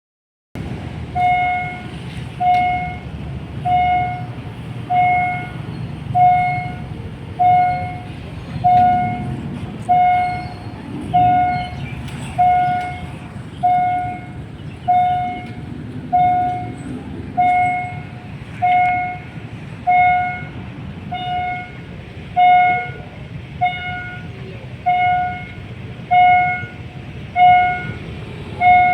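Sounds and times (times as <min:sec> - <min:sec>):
train rumbling past: 0:00.6 - 0:28.9
electronic warning tone beeping: 0:01.1 - 0:23.0, 0:23.6 - 0:28.9.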